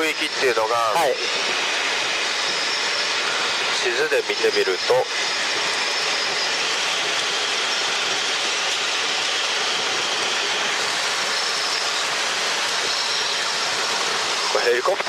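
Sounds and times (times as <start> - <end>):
helicopter cabin noise: 0.0 - 15.0.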